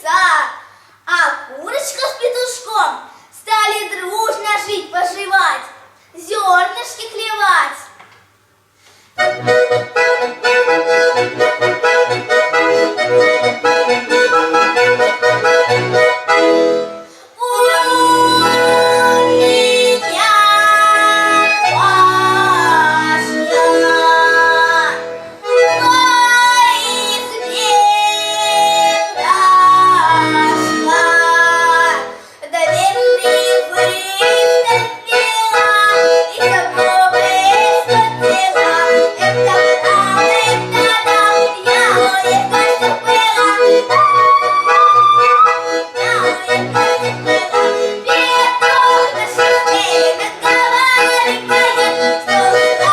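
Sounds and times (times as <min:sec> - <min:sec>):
accordion playing: 0:09.2 - 0:52.9.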